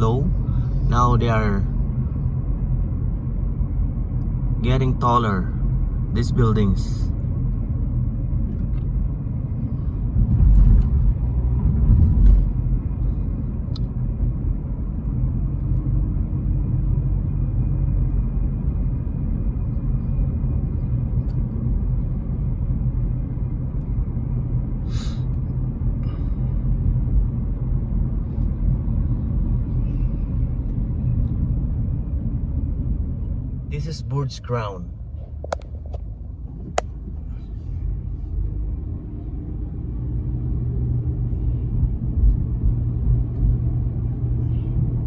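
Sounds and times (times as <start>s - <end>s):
car interior road and engine noise: 0.0s - 45.0s.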